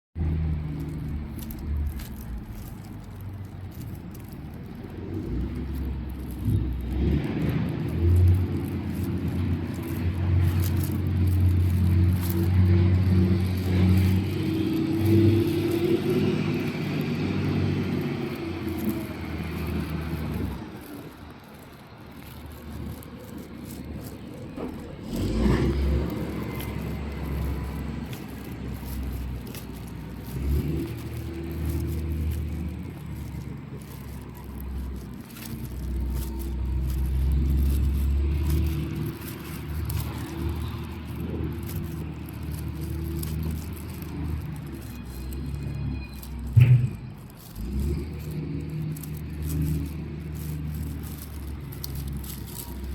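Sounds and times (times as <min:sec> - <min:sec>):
diesel truck engine droning: 0:00.2 - 0:52.9.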